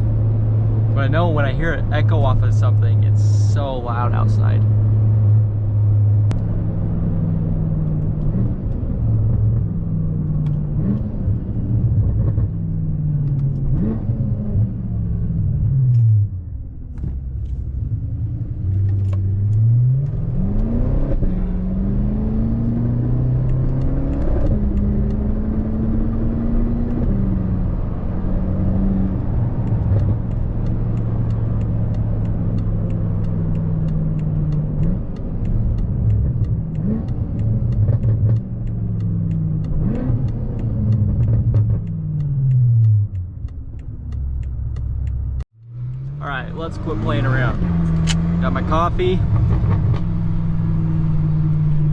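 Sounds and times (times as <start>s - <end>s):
car engine accelerating: 0.0s - 51.9s.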